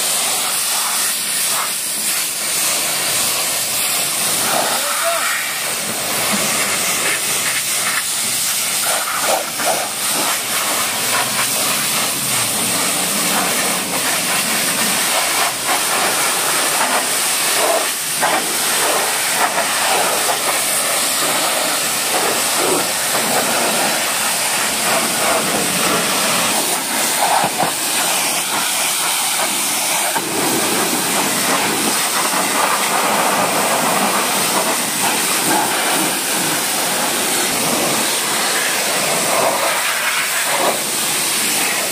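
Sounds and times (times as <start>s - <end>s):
pressure washer water jet hissing: 0.0s - 41.9s.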